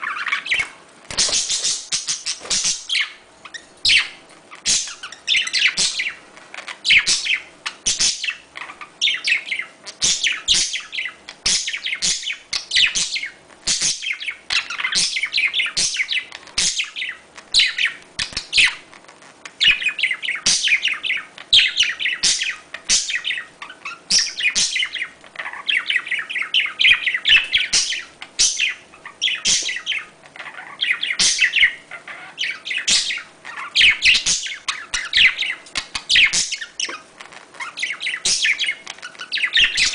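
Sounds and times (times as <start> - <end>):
budgerigars chattering: 0.0 - 18.9, 19.6 - 39.9.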